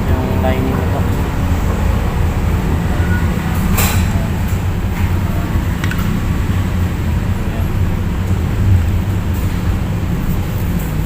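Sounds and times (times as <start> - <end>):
low rumble of traffic or machinery: 0.0 - 11.0.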